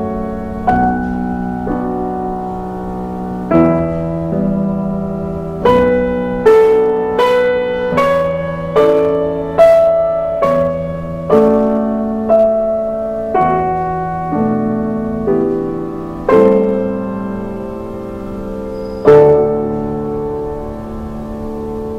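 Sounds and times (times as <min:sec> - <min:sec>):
slow piano music: 0:00.0 - 0:21.9.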